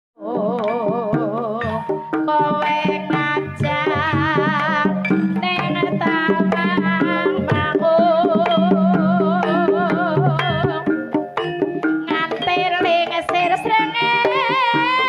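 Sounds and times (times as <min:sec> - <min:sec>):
wavering melody with vibrato: 0:00.2 - 0:15.0
steady drumming: 0:00.4 - 0:15.0.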